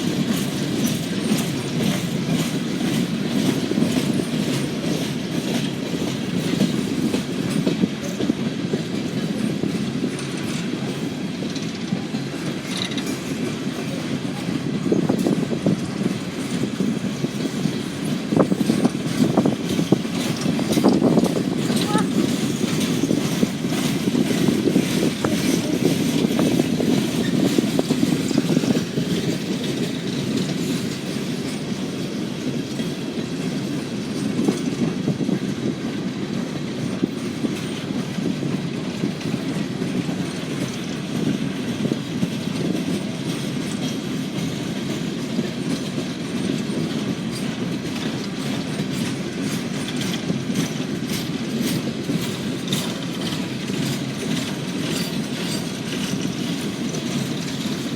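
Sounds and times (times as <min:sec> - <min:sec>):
freight train cars rumbling: 0:00.0 - 0:57.9
wheel clicks over rail joints: 0:00.0 - 0:57.9.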